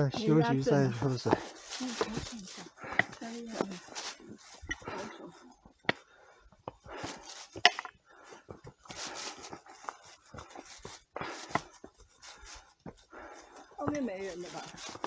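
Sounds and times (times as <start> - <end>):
footsteps on a trail: 0.0 - 15.0
people breathing hard: 0.8 - 13.9.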